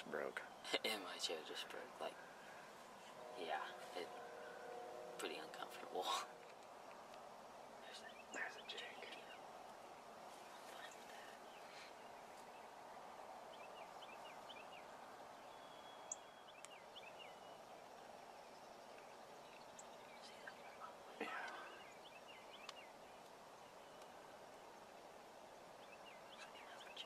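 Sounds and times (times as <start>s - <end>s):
faint outdoor hush: 0.0s - 27.0s.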